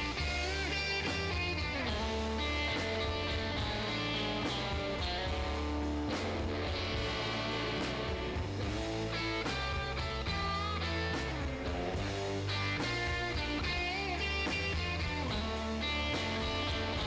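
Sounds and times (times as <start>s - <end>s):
electric guitar: 0.0s - 17.0s
steady bass: 0.0s - 17.0s.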